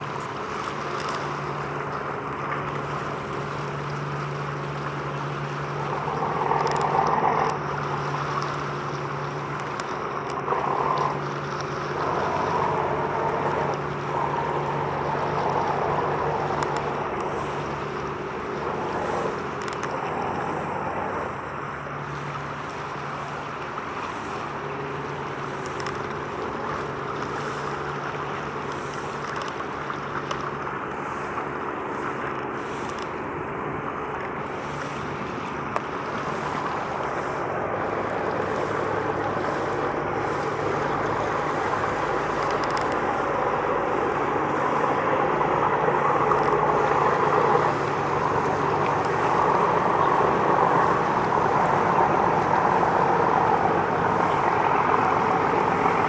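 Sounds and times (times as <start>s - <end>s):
boat engine running: 0.0s - 56.0s
water noise: 0.0s - 56.0s.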